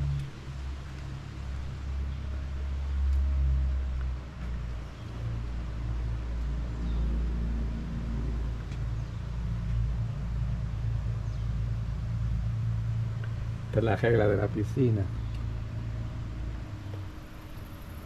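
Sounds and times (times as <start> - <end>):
low rumble with deep hum: 0.0 - 18.0.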